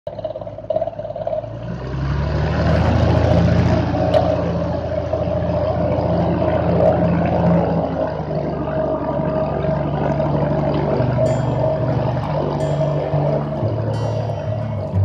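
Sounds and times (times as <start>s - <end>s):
light aircraft engine running: 0.1s - 15.0s.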